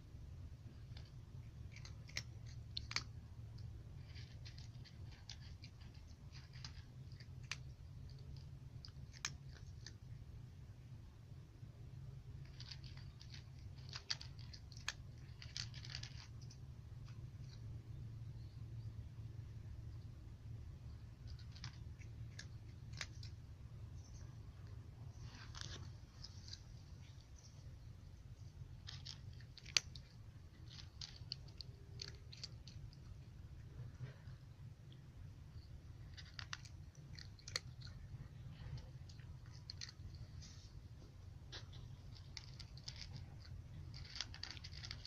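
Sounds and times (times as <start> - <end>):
low steady hum: 0.0 - 45.0
cat crunching dry kibble: 0.1 - 10.9, 11.8 - 18.7, 19.6 - 45.0.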